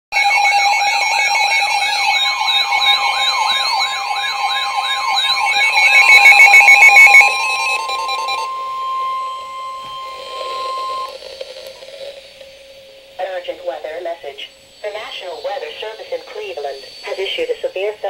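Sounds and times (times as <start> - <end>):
steady alarm tone: 0.1 - 18.0
rapidly beeping alarm tones: 0.2 - 18.0
sweeping siren-like alarm tone: 0.2 - 18.0.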